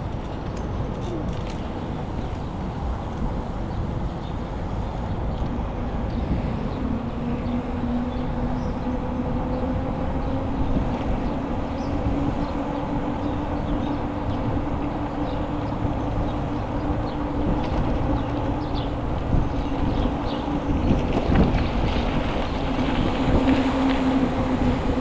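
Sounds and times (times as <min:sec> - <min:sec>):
bicycle tyres rumbling: 0:00.0 - 0:25.0
wind on microphone: 0:00.0 - 0:25.0
low hum rising in pitch: 0:01.5 - 0:25.0.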